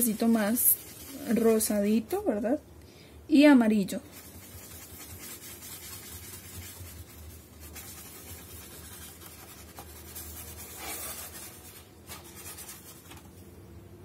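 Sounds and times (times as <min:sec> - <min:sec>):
paintbrush scrubbing on foam: 0:00.0 - 0:02.2, 0:04.0 - 0:13.4.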